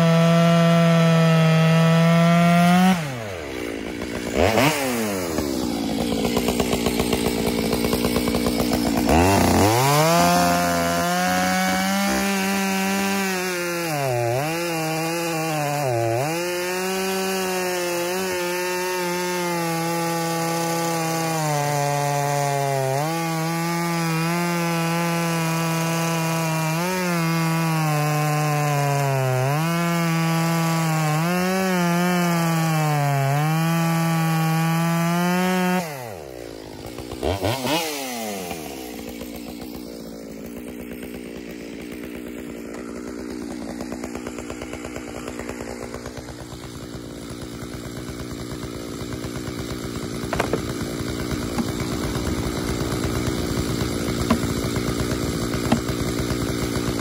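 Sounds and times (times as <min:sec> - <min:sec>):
chainsaw revving and cutting log: 0:00.0 - 0:57.0.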